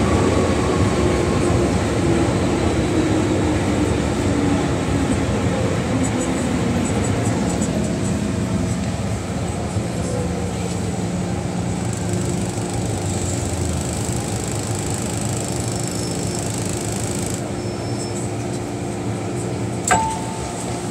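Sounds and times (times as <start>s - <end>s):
train running and braking: 0.0s - 20.9s.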